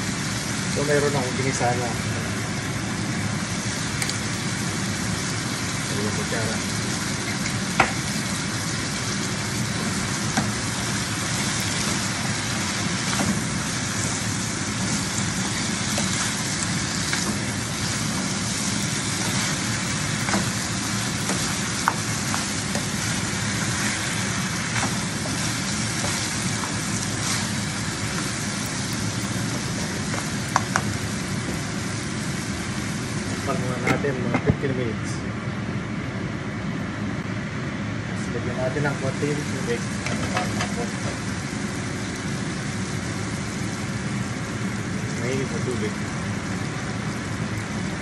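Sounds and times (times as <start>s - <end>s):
food sizzling in a frying pan: 0.0s - 34.2s, 38.9s - 48.0s.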